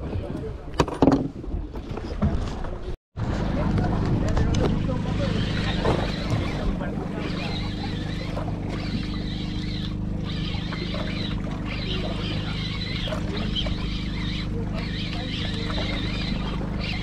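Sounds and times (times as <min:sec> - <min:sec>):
boat engine humming: 0:03.2 - 0:17.0
sea water rushing: 0:03.2 - 0:17.0.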